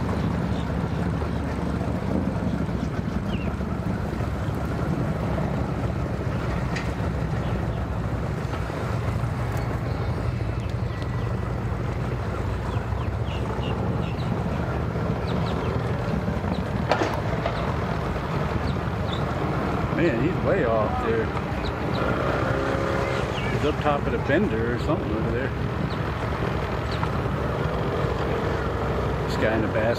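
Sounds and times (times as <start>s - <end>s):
outboard motor running: 0.0s - 29.9s
wind on microphone: 0.0s - 29.9s.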